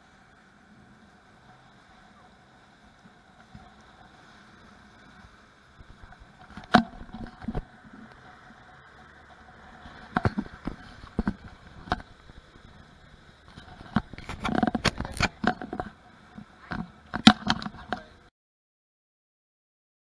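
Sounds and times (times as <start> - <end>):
outboard motor running: 0.0 - 18.3
water rushing: 0.0 - 18.3.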